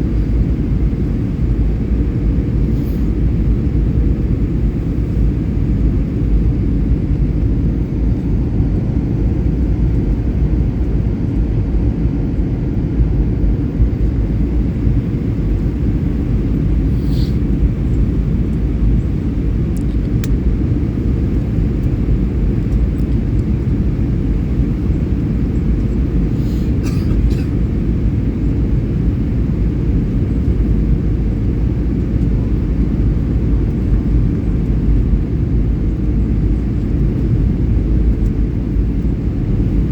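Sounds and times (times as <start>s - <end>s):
jet airliner engine roar: 0.0s - 39.9s.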